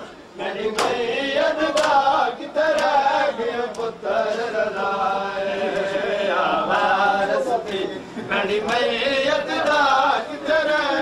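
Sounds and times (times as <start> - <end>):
men chanting in unison: 0.4 - 11.0.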